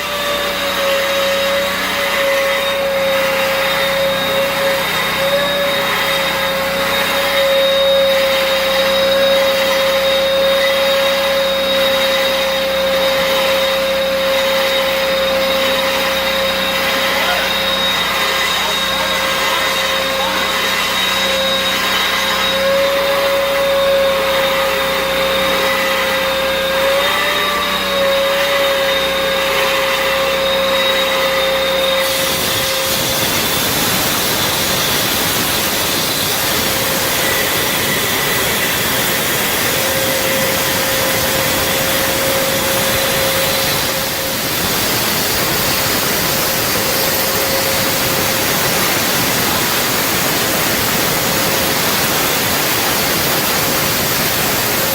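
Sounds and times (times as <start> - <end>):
concrete saw cutting concrete: 0.0 - 54.9.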